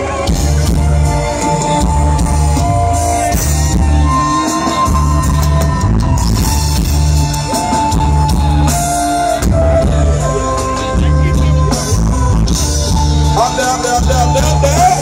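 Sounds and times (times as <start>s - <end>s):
live band playing amplified music: 0.0s - 15.0s.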